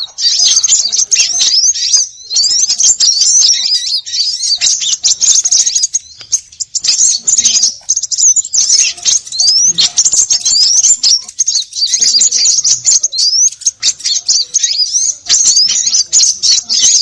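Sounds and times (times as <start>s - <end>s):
rising bird whistles: 0.0s - 17.0s
songbirds chattering and chirping: 0.0s - 17.0s.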